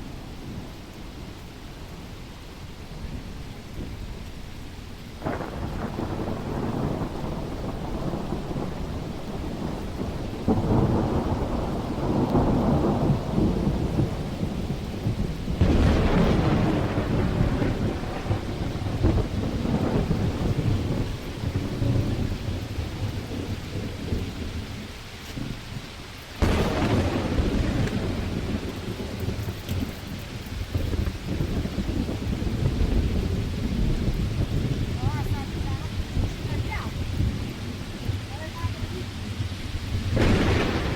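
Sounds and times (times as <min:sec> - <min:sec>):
heavy rain falling: 0:00.0 - 0:40.9
thunder rolling: 0:00.0 - 0:40.9.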